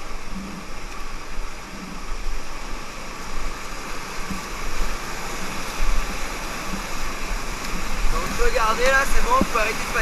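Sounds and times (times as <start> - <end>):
whitewater rushing: 0.0 - 10.0.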